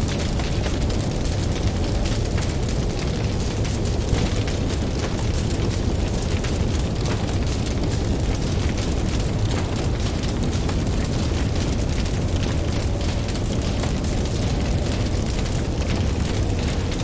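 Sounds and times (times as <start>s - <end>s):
campfire crackling and popping: 0.0s - 17.0s
steady low rumble: 0.0s - 17.0s.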